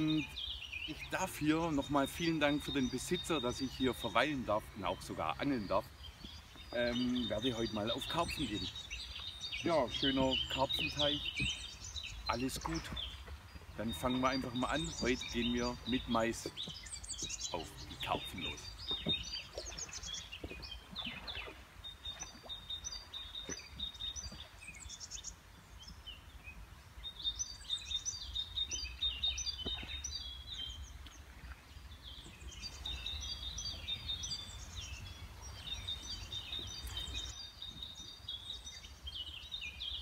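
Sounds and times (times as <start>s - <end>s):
songbirds singing: 0.0s - 40.0s.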